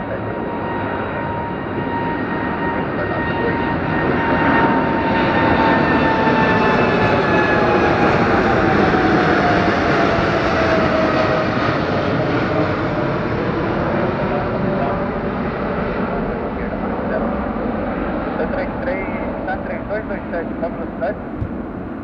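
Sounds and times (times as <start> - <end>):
jet aircraft passing overhead: 0.0 - 22.0.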